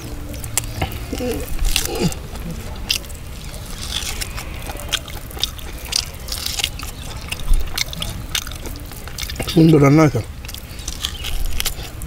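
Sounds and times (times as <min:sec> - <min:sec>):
man chewing meat: 0:00.0 - 0:12.0
wet mouth clicks and smacks: 0:00.0 - 0:12.0.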